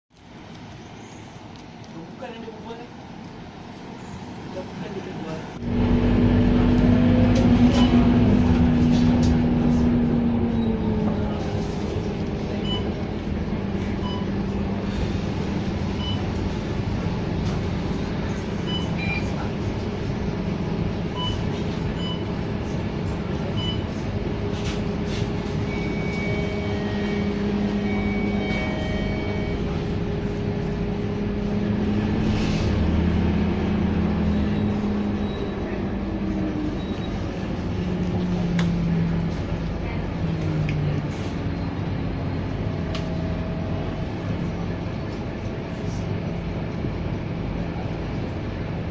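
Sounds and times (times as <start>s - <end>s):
bus diesel engine droning: 0.3s - 48.9s.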